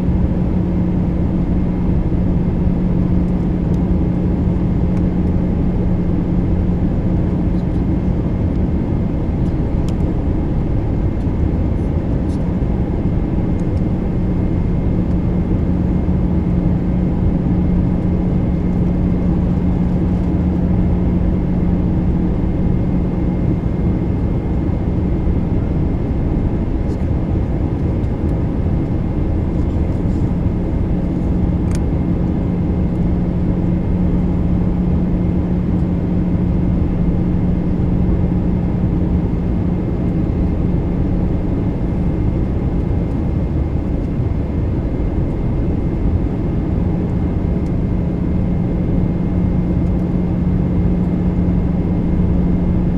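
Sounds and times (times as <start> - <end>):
airliner engine drone: 0.0 - 52.9
constant low hum: 0.0 - 52.9.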